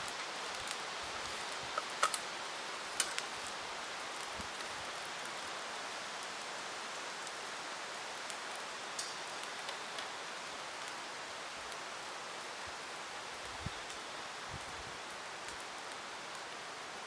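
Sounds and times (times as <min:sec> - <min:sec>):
campfire hissing: 0:00.0 - 0:17.0
fire crackles and pops: 0:00.0 - 0:17.0.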